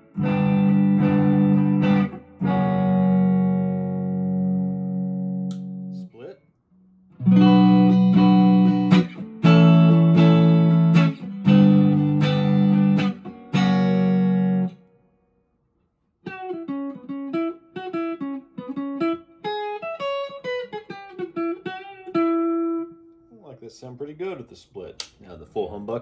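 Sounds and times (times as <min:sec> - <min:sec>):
clean electric guitar: 0:00.0 - 0:15.0, 0:16.2 - 0:23.3.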